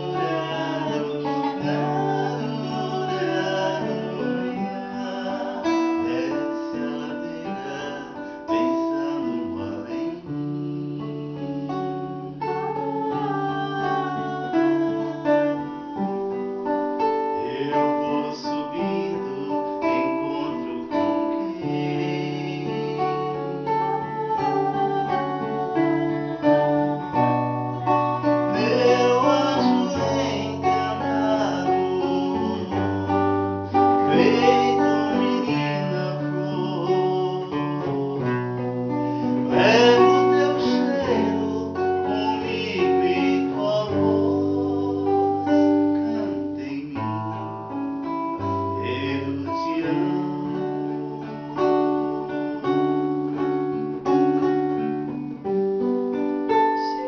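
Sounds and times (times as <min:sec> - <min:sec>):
person singing faintly: 0:00.0 - 0:11.4, 0:12.4 - 0:47.0
acoustic guitar playing: 0:00.0 - 0:57.0.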